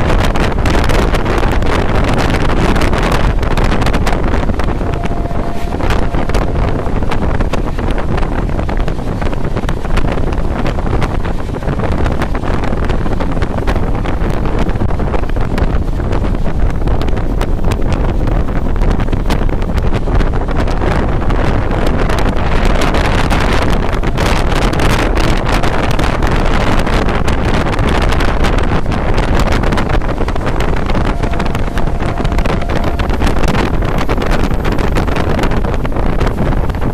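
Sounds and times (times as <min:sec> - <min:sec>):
train wheels rumbling and clattering: 0:00.0 - 0:36.9
wind rushing on microphone: 0:00.0 - 0:36.9.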